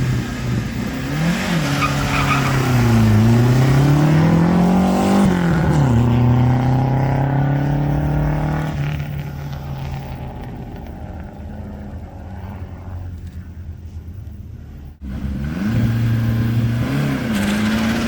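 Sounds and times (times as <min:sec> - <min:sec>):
rally car engine revving: 0:00.0 - 0:13.5, 0:15.0 - 0:18.0.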